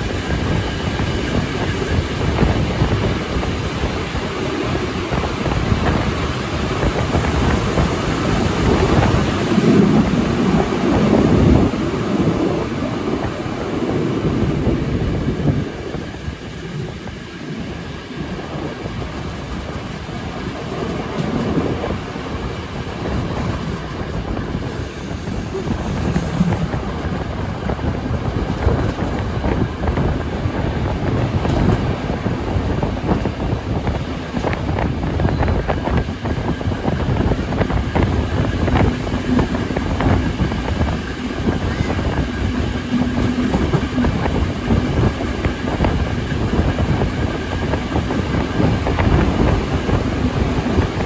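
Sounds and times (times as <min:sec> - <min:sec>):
train rolling noise: 0:00.0 - 0:51.0
wheels clacking on track: 0:00.0 - 0:51.0.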